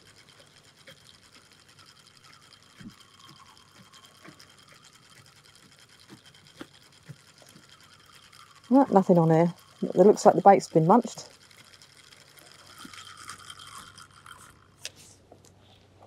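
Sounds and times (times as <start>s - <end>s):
fishing reel whirring: 0.0s - 15.3s.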